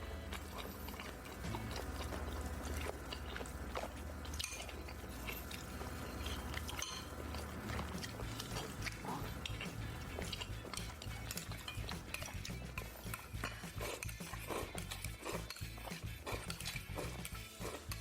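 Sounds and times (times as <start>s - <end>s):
low steady hum: 0.0s - 17.9s
chewing and wet mouth noises: 0.0s - 18.0s
utensils clicking on dishes: 0.0s - 18.0s.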